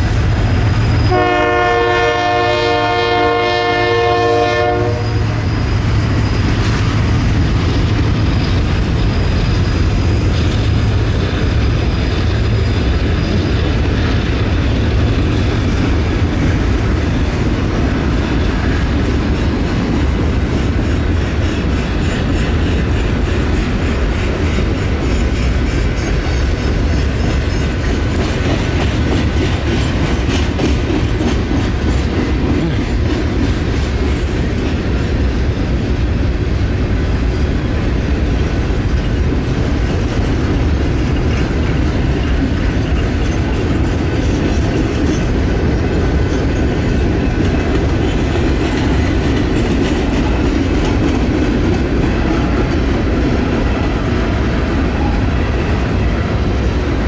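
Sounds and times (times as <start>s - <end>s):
freight train wheels rolling: 0.0s - 57.0s.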